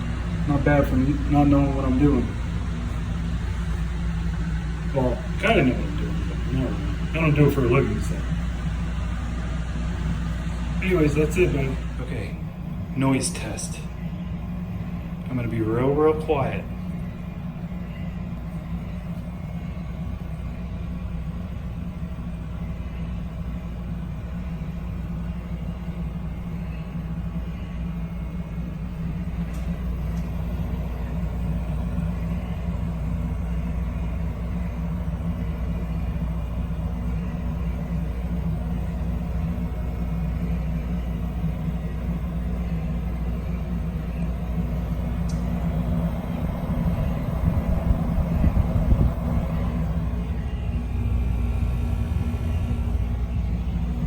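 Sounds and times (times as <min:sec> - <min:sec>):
water heater low hum: 0:00.0 - 0:54.0.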